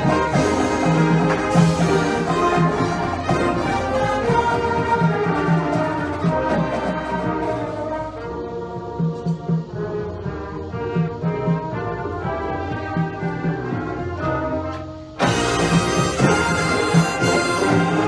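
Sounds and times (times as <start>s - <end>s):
brass melody: 0.0s - 9.0s, 11.1s - 18.0s
drums and cymbals: 0.0s - 18.0s.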